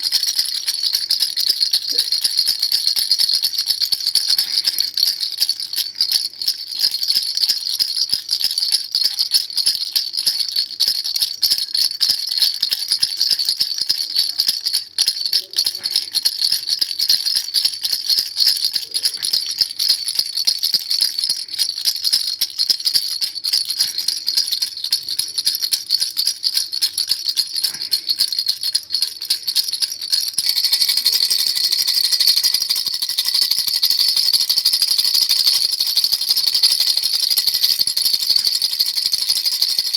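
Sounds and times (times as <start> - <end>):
baby rattle shaken rapidly: 0.0 - 39.9.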